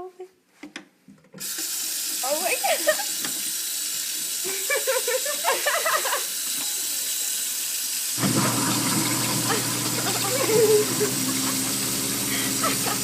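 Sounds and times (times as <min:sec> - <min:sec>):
garbage disposal grinding: 0:01.4 - 0:13.0
tap water running into sink: 0:01.4 - 0:13.0.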